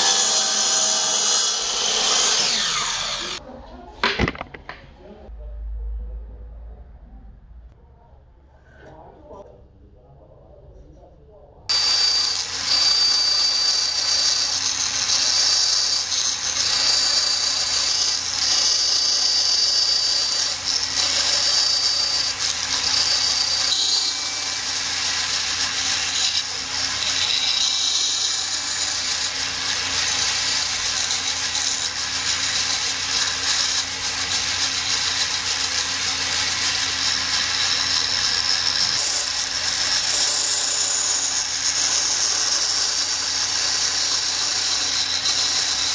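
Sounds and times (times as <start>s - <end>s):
band saw cutting plywood: 0.0s - 3.4s, 11.7s - 45.9s.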